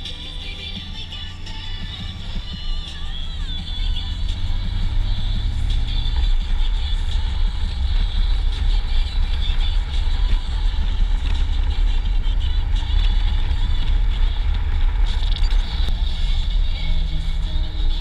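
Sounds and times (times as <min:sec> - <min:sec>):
motorcycle and road noise: 0:00.0 - 0:18.0.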